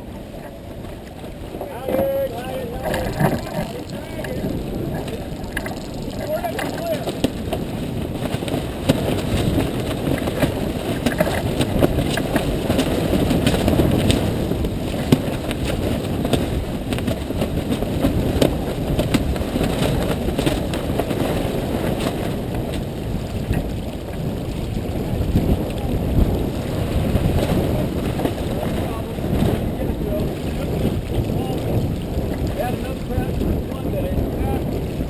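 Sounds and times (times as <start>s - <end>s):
water rushing past hull: 0.0s - 35.0s
wind buffeting microphone: 0.0s - 35.0s.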